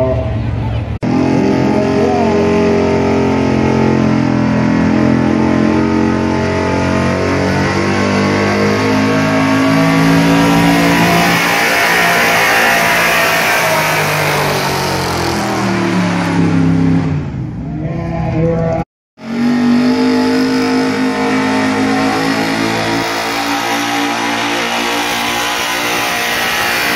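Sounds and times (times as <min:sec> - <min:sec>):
truck engine at high revs: 0:00.0 - 0:17.6, 0:19.2 - 0:26.9.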